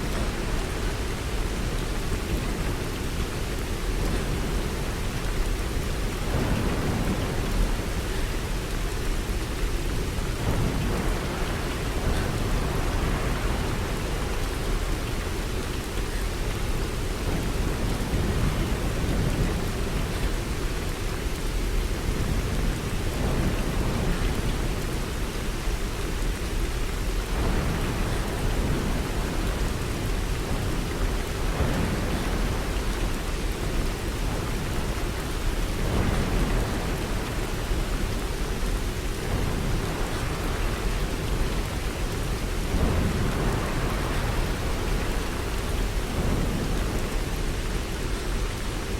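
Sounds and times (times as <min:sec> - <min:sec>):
heavy rain: 0:00.0 - 0:48.9
low storm rumble: 0:00.0 - 0:48.9.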